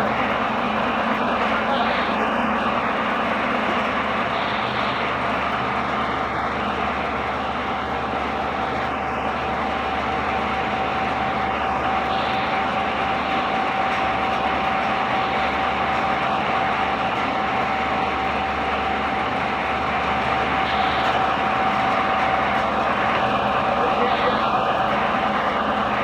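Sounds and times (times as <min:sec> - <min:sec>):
machinery running: 0:00.0 - 0:26.0
steady machine whine: 0:00.0 - 0:26.0.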